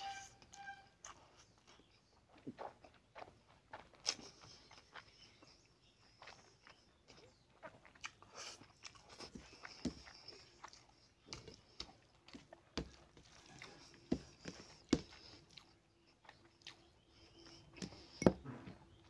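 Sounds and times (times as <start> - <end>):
chewing and wet mouth smacks: 1.0 - 19.0.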